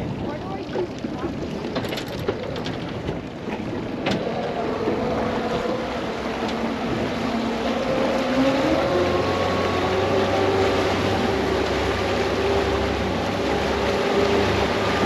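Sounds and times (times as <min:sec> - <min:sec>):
water noise: 0:00.0 - 0:15.0
wind buffeting microphone: 0:00.0 - 0:15.0.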